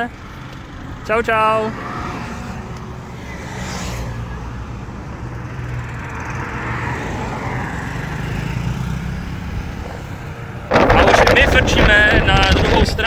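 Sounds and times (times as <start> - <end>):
tyres on road: 0.0 - 13.0
vehicle engines running: 0.0 - 13.0.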